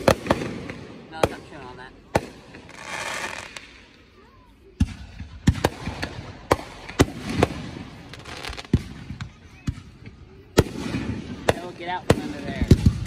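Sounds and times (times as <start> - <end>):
fireworks bangs: 0.0 - 4.0, 4.7 - 13.0.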